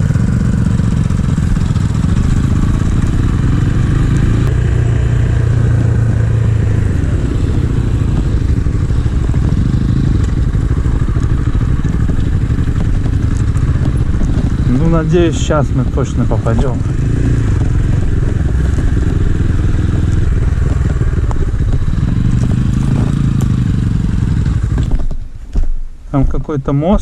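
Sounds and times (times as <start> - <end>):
motorcycle engine running: 0.0 - 25.4.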